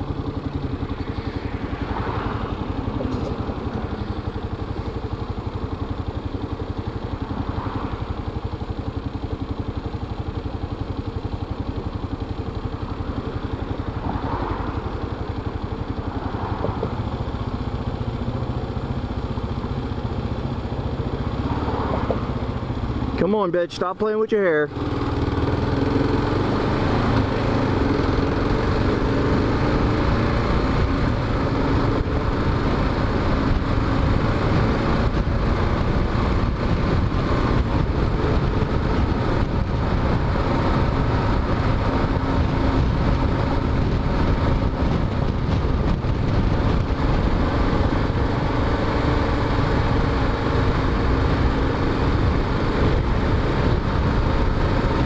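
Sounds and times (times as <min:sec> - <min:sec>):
motorcycle engine running: 0:00.0 - 0:55.0
rushing riding noise: 0:00.0 - 0:55.0.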